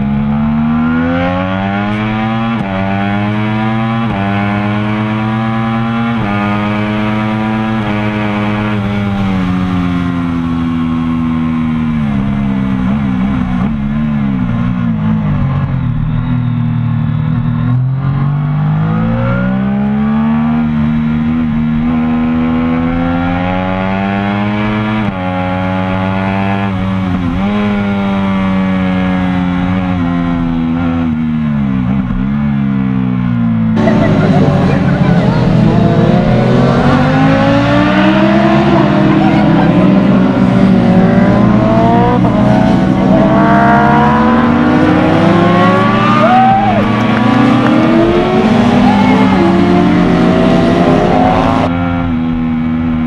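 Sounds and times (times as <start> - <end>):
motorcycle engine racing: 0.0 - 53.0.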